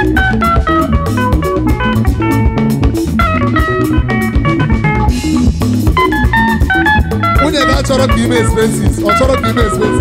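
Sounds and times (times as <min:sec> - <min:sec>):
drum kit: 0:00.0 - 0:10.0
electric bass: 0:00.0 - 0:10.0
guitar melody: 0:00.0 - 0:10.0.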